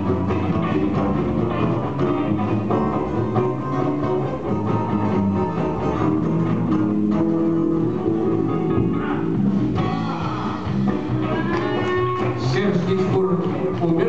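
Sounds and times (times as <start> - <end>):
guitar: 0.0 - 14.0
live band instrumental music: 0.0 - 14.0.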